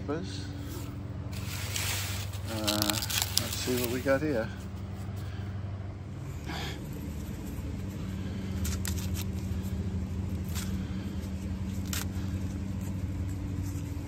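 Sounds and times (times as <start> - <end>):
low mechanical hum: 0.0 - 14.0
corn husks crackling and tearing: 0.8 - 5.4, 6.4 - 14.0.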